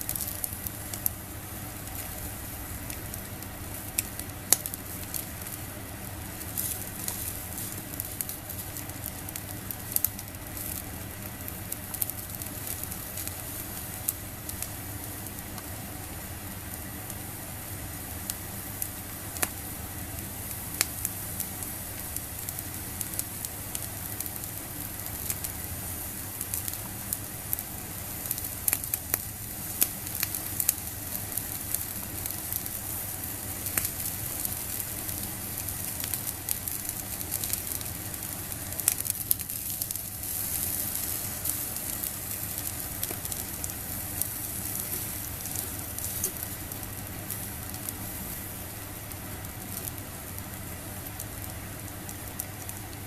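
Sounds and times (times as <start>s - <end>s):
fire popping and crackling: 0.0s - 53.0s
squid sizzling on a grill: 0.0s - 53.0s.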